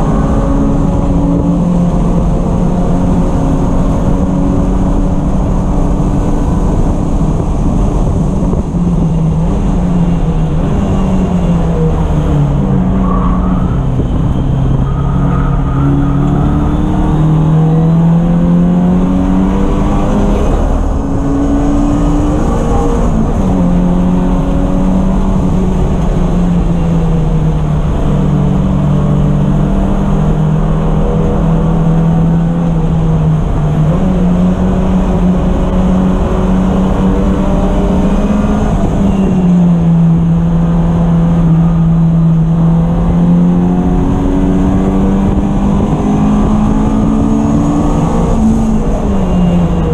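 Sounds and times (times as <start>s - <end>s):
race car engine running hard: 0.0s - 49.9s.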